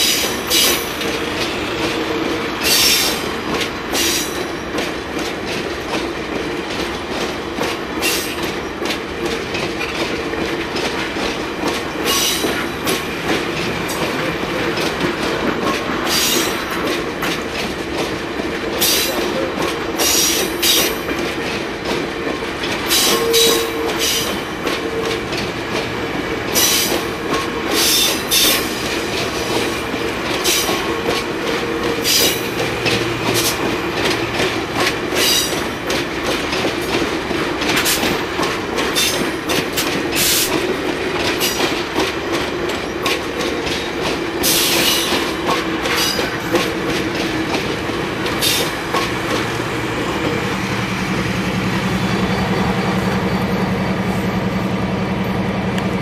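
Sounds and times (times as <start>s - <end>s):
train wheels clattering on rail: 0.0s - 56.0s.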